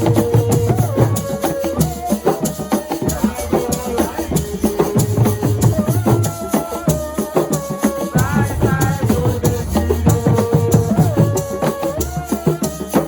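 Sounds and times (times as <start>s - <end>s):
fast percussion music: 0.0s - 13.0s.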